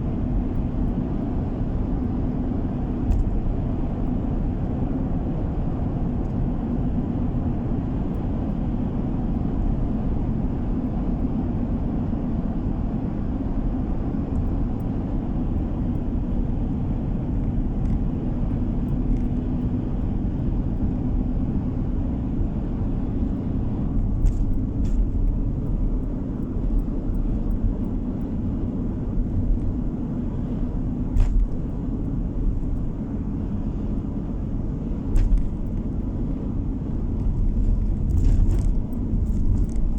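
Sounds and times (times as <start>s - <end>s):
road and engine noise in car: 0.0s - 39.9s.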